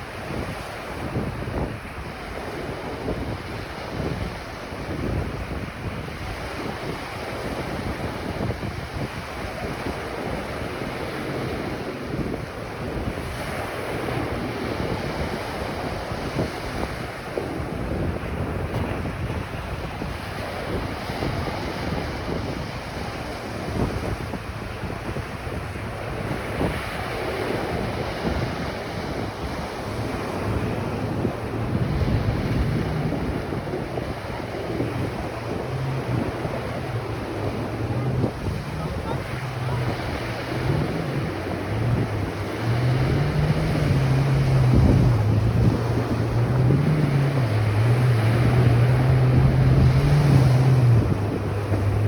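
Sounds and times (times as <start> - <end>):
ocean waves breaking: 0.0 - 52.0
wind buffeting microphone: 0.0 - 52.0.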